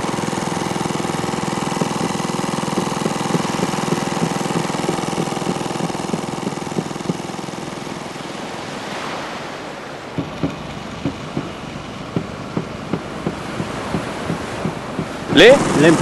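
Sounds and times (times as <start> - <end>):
boat engine knocking slowly: 0.0 - 16.0
sea and wind: 0.0 - 16.0.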